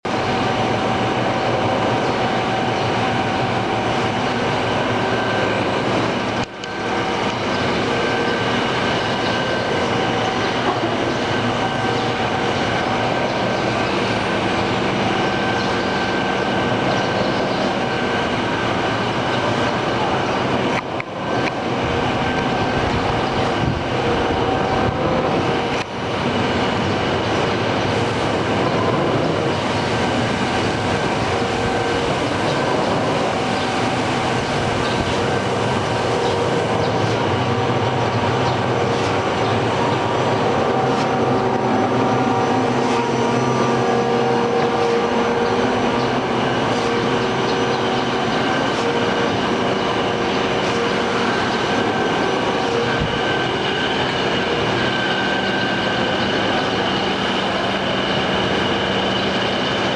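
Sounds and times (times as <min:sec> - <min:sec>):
surface grinder whining: 0:02.3 - 0:59.9.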